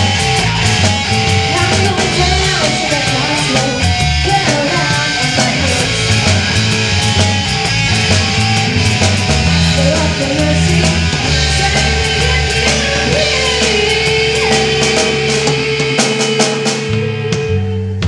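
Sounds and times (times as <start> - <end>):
amplified electric guitar: 0.0 - 18.0
live rock band playing: 0.0 - 18.0.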